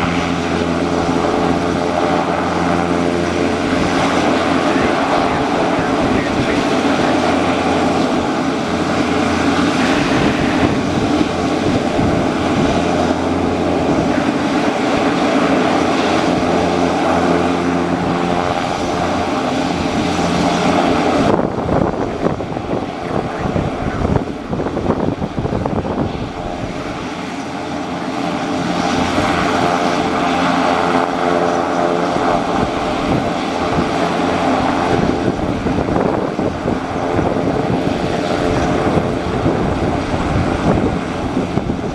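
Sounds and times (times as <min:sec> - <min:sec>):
aircraft engine drone: 0:00.0 - 0:41.9.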